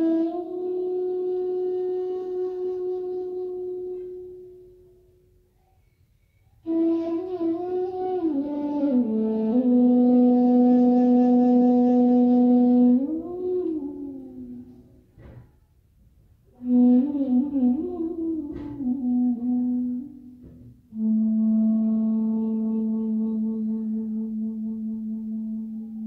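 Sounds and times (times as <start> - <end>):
wind instrument meditation music: 0.0 - 15.4, 16.4 - 26.0.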